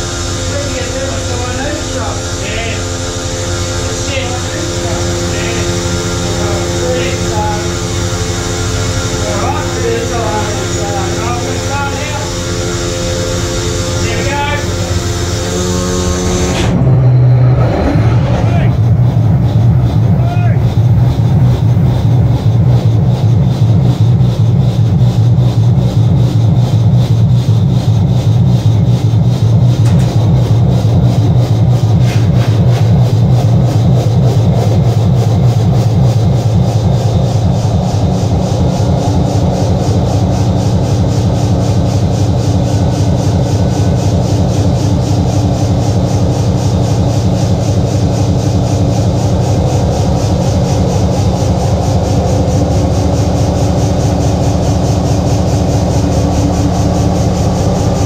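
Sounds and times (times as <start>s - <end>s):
locomotive diesel engine running: 0.0s - 58.0s.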